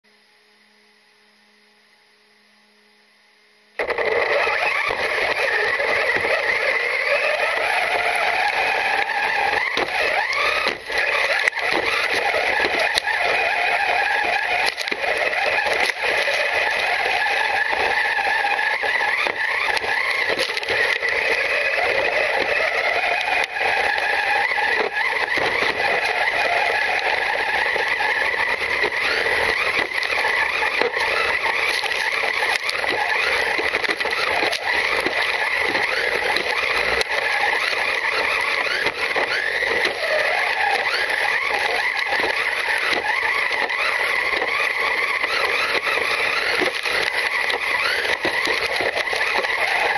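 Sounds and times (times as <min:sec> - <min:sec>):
rc truck motor whine: 0:00.1 - 0:49.9
rattling: 0:03.8 - 0:49.9.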